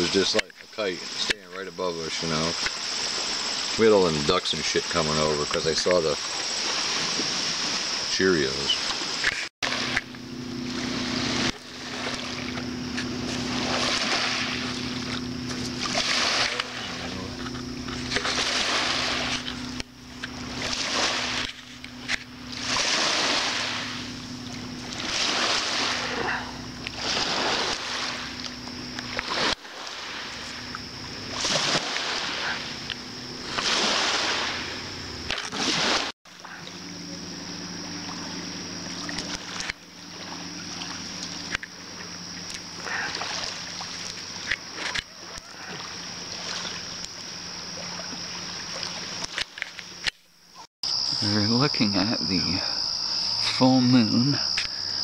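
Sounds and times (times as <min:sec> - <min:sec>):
steady low hum: 0:00.0 - 0:55.0
paddle strokes splashing in water: 0:02.1 - 0:37.1, 0:37.7 - 0:50.7.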